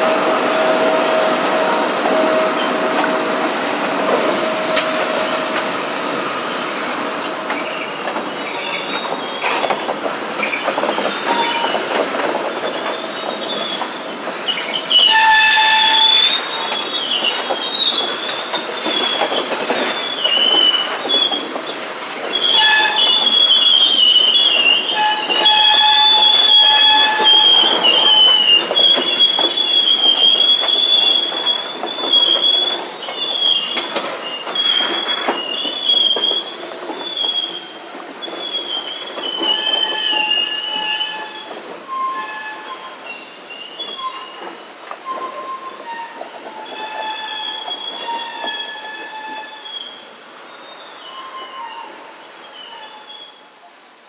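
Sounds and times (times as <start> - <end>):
train wheels squealing on rail: 0.0 - 53.9.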